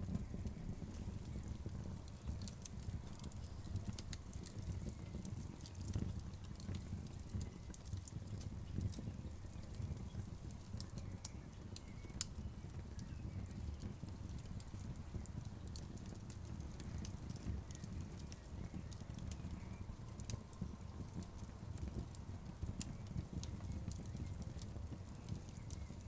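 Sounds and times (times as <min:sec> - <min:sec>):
fire crackling with pops and snaps: 0:00.0 - 0:26.0
low fire rumble: 0:00.0 - 0:26.0.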